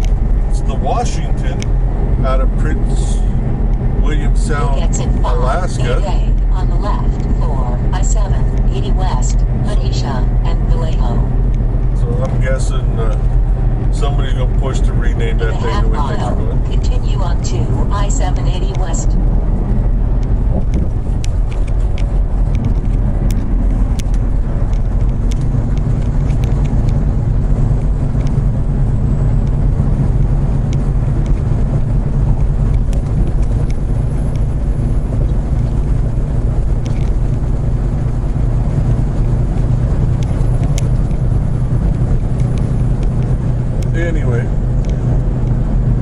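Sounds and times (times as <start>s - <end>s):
truck engine drone in cab: 0.0s - 46.0s.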